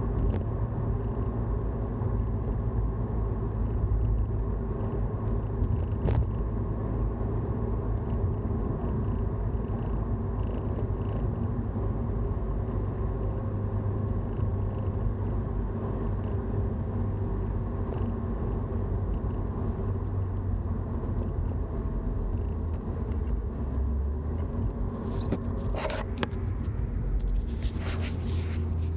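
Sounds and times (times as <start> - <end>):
car engine low rumble and hum: 0.0 - 28.9.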